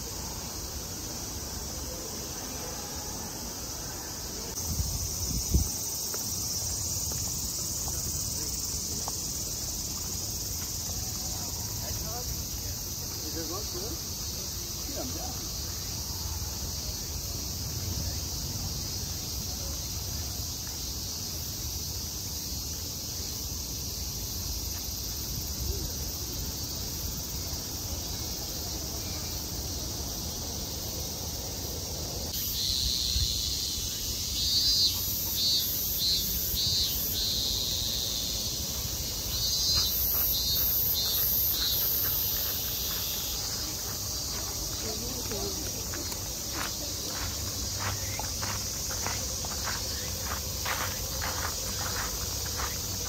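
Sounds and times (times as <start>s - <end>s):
insects droning: 0.0s - 53.0s
shrill pulsing insect calls: 0.0s - 53.0s.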